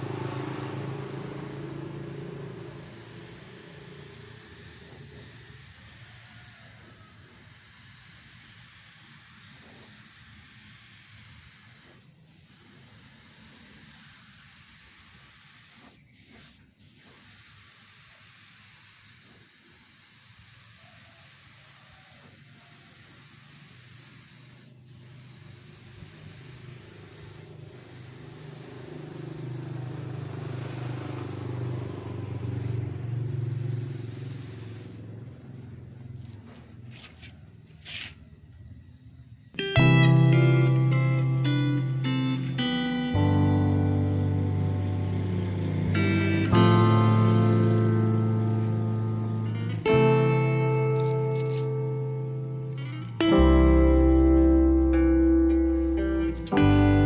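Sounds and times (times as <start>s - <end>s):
air spray gun hissing: 0.0s - 53.2s, 54.6s - 57.0s
air compressor motor humming: 0.0s - 53.4s, 54.6s - 57.0s.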